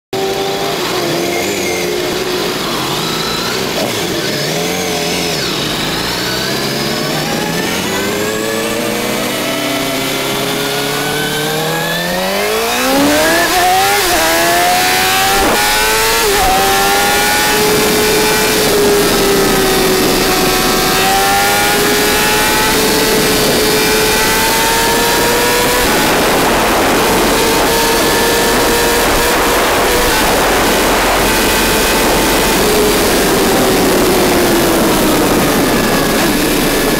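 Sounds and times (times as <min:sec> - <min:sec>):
motorcycle engine accelerating: 0:00.1 - 0:36.9
rush of noise: 0:00.2 - 0:36.9.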